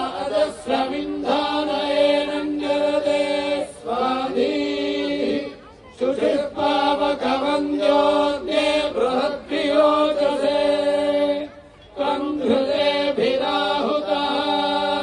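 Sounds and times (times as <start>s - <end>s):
priests chanting in unison: 0.0s - 15.0s.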